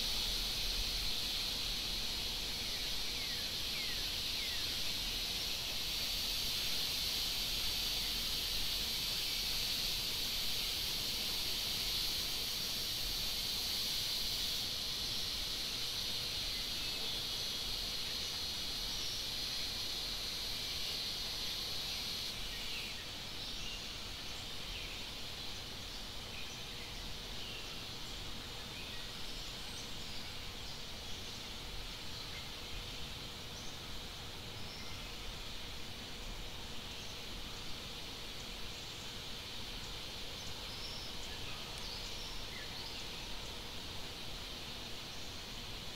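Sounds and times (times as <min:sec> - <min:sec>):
high insect drone: 0:00.0 - 0:45.9.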